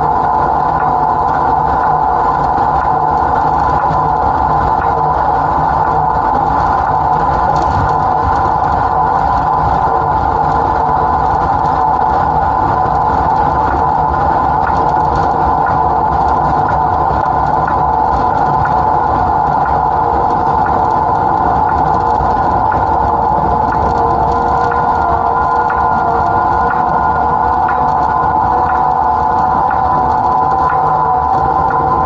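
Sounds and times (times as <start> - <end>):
diesel locomotive engine drone: 0.0 - 32.0.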